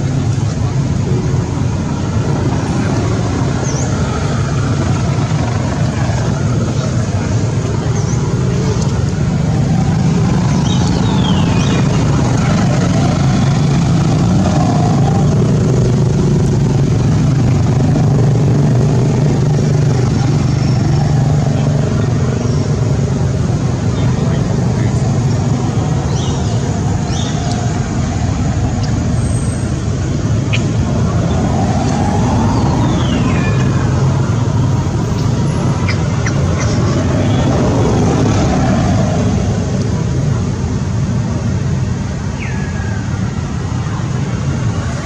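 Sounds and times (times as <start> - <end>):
low engine drone: 0.0 - 45.0.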